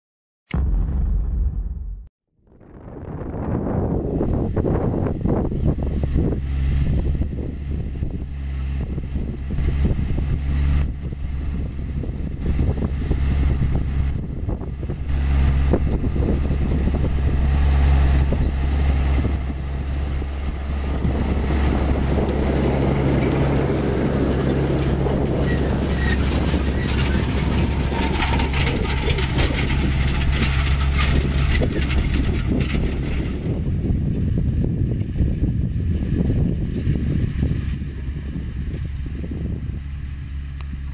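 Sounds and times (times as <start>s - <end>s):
tractor diesel engine under load: 3.9s - 40.9s.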